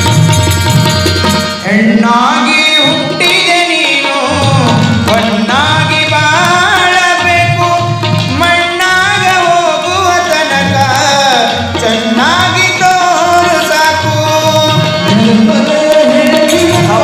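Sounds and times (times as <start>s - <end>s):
tabla drumming: 0.0s - 17.0s
man singing folk song: 1.6s - 17.0s.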